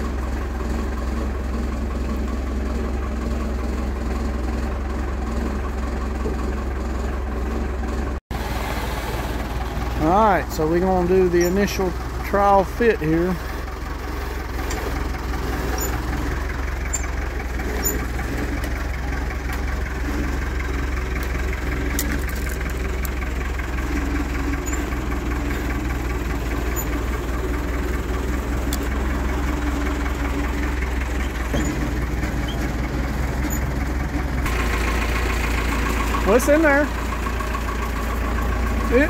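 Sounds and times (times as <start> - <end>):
machine engine idling: 0.0 - 39.0.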